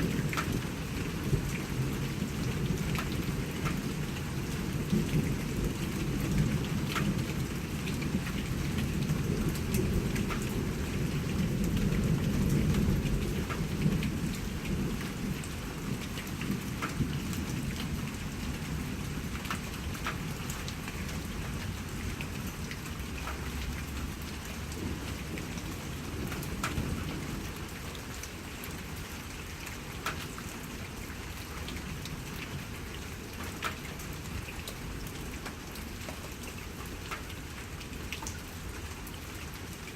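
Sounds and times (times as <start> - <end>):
steady rain with drops ticking: 0.0 - 39.9.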